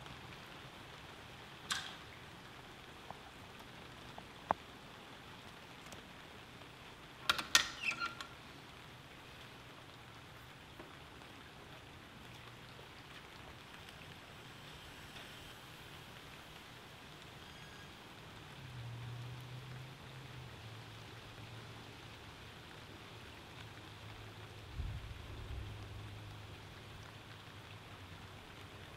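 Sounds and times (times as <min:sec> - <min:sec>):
steady rain: 0:00.0 - 0:28.9.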